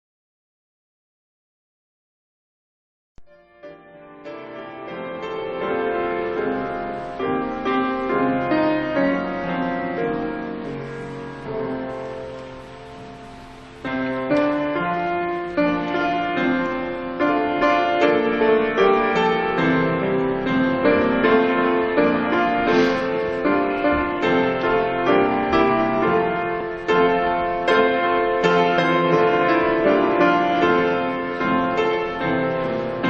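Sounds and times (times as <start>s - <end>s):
slow piano music: 3.2s - 33.0s.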